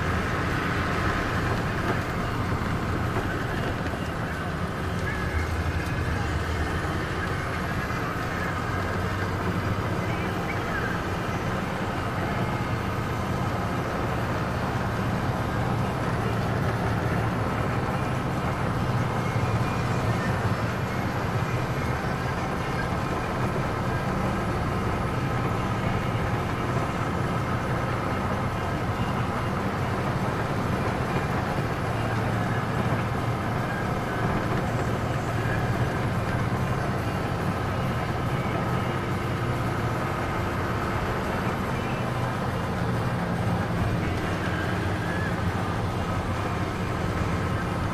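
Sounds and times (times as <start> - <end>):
car engine: 0.0 - 47.9
tyre noise on paved road: 0.0 - 47.9.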